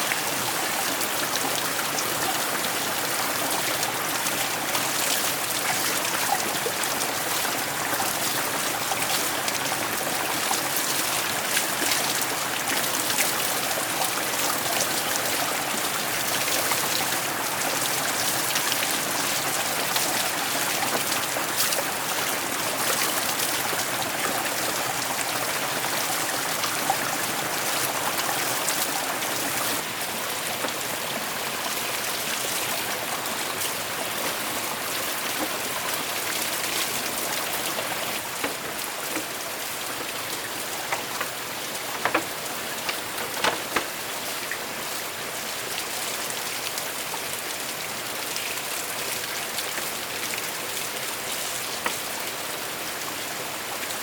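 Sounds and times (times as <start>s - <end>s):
water rushing and pattering: 0.0s - 54.0s.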